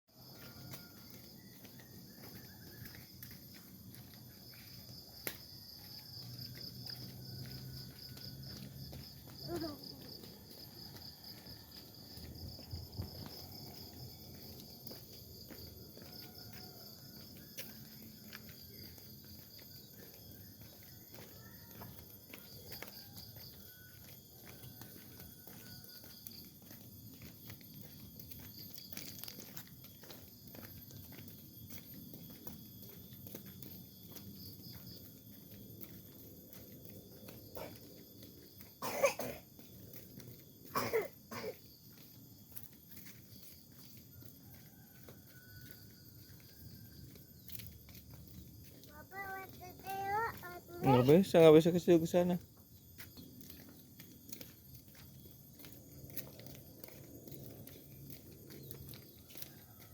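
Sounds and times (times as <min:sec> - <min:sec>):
insects chirring: 0:00.3 - 0:59.9.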